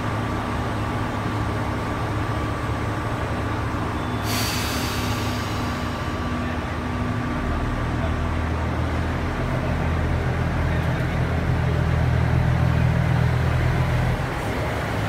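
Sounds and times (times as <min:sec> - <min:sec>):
train engine hum: 0:00.0 - 0:15.0.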